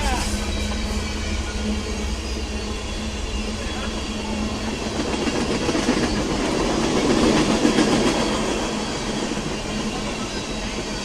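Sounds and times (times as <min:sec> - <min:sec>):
freight train wheels clickety-clack: 0:00.0 - 0:11.0.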